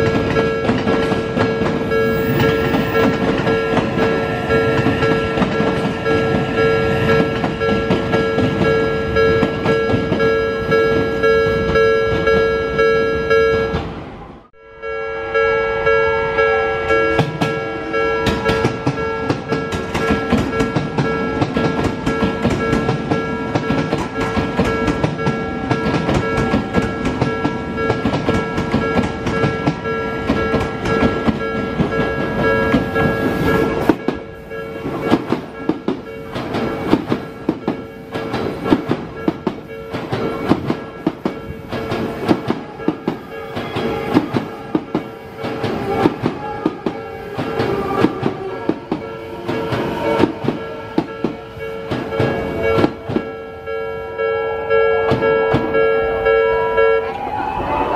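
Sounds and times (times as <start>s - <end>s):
level crossing bell ringing: 0.0s - 13.8s, 14.6s - 47.9s, 48.5s - 57.1s
train wheels clacking: 0.0s - 13.9s, 17.1s - 53.6s, 55.0s - 56.0s.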